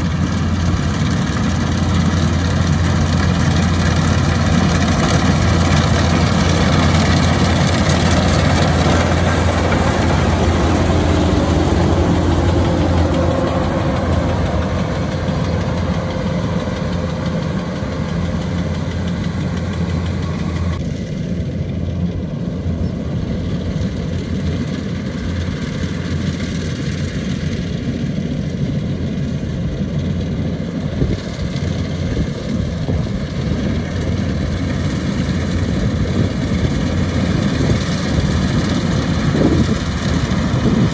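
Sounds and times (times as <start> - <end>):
combine harvester diesel engine humming: 0.0 - 40.9.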